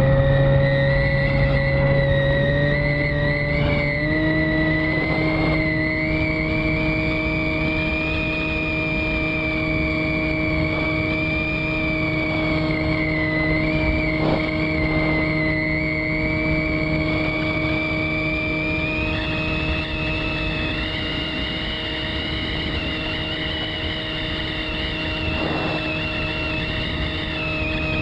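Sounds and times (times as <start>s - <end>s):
electric motor and propeller whine: 0.0s - 28.0s
wind noise: 0.0s - 28.0s.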